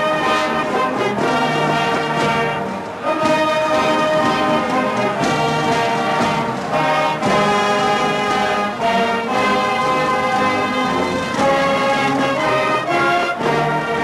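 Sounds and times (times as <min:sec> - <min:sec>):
brass band playing chords: 0:00.0 - 0:14.0.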